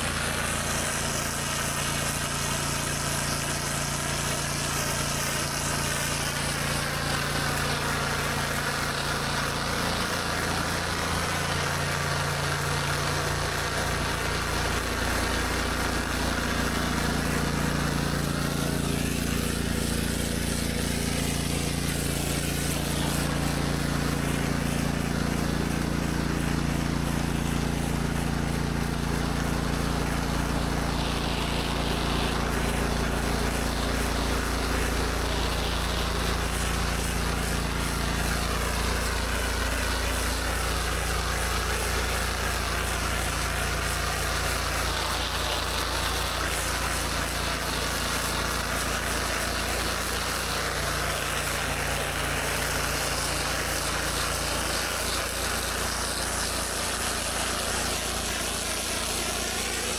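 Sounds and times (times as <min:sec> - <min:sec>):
pressure washer engine hum: 0:00.0 - 0:59.9
water spraying onto concrete: 0:00.0 - 0:59.9.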